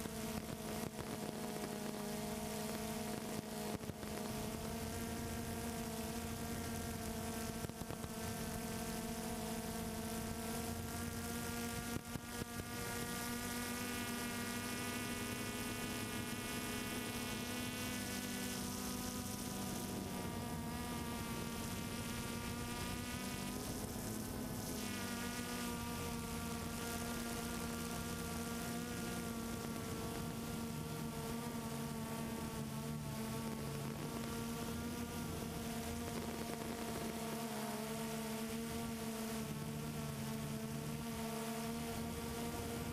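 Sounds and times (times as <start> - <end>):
drone motors buzzing whine: 0.0 - 42.9.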